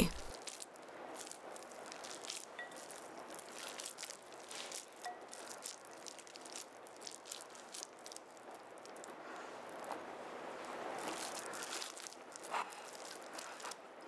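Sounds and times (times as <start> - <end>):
wet squishing of raw meat: 0.3 - 10.0, 10.9 - 13.8.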